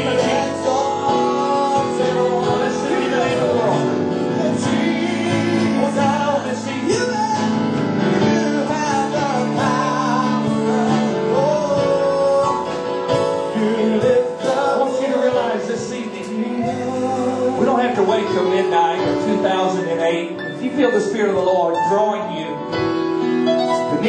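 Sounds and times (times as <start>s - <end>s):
man and woman singing: 0.0s - 20.2s
instrumental accompaniment: 0.0s - 24.0s.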